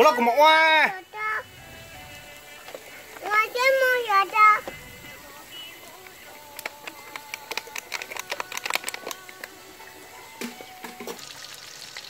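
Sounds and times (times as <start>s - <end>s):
fat crackling and popping on grill: 0.0s - 12.0s.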